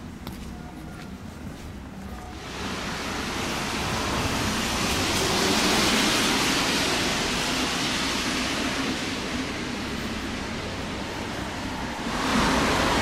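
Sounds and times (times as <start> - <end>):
tyres hissing on wet street: 2.3 - 13.0.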